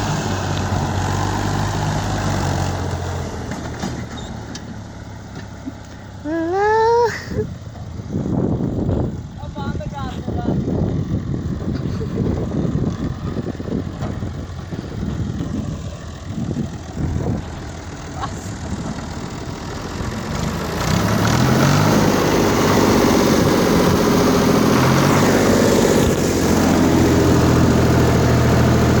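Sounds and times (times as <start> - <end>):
tractor engine rumbling: 0.0 - 29.0.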